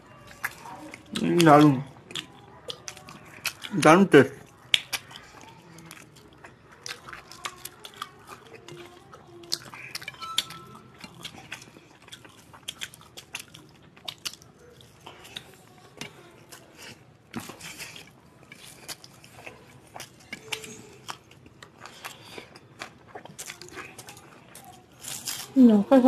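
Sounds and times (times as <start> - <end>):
chewing and mouth smacks: 0.0 - 25.6.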